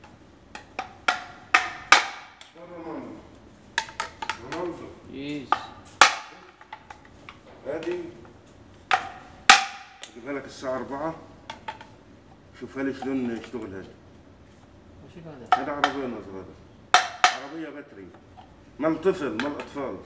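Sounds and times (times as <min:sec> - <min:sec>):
metal tubes knocking together: 0:00.0 - 0:10.6, 0:11.3 - 0:13.7, 0:15.4 - 0:20.0.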